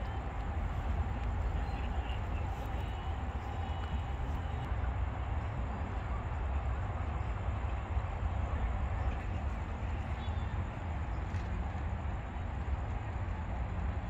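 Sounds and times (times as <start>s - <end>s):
distant road traffic: 0.0s - 14.0s.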